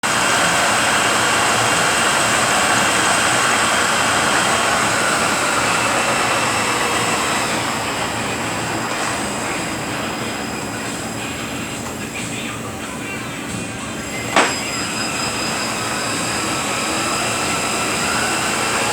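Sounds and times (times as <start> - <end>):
transmission running with gear whine: 0.0 - 18.9.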